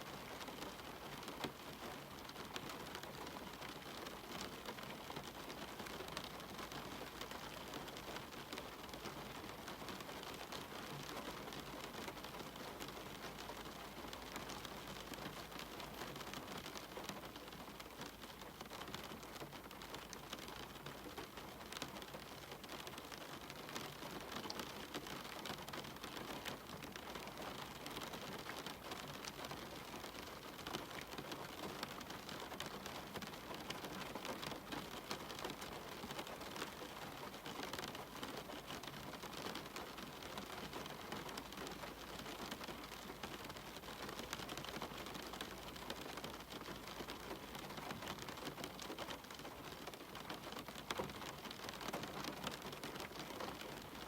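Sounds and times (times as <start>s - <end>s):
rain patter on a window: 0.0s - 54.0s.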